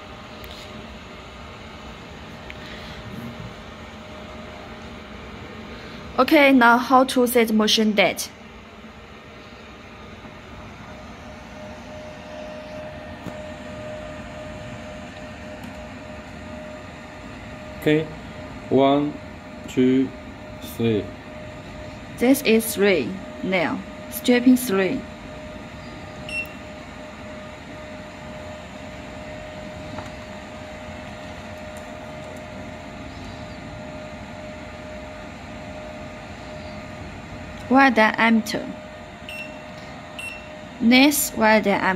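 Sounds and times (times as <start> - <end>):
mechanical hum: 0.0 - 41.9
thin steady whine: 0.0 - 41.9.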